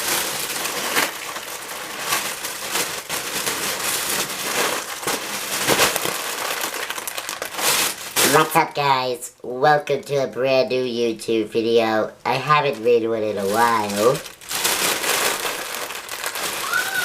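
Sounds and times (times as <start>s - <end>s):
dense crackling and crunching: 0.0s - 8.9s, 12.2s - 17.0s.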